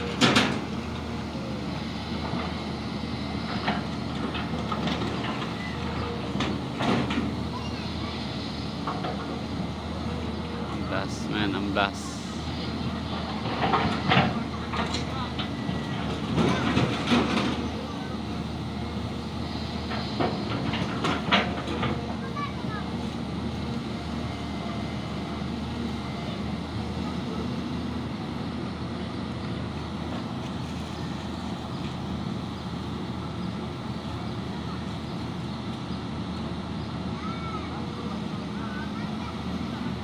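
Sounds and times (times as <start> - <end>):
diesel engine rumbling: 0.0 - 40.0.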